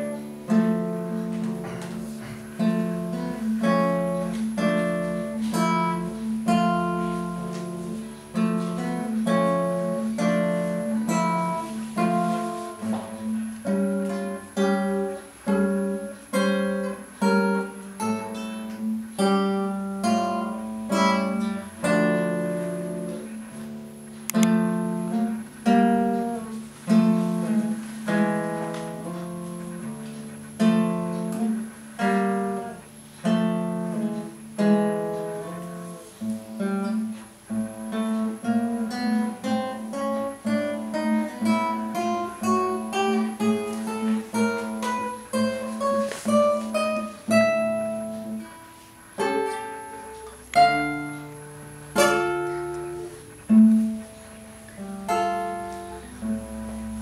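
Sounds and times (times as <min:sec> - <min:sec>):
fingerpicked classical guitar: 0:00.0 - 0:57.0.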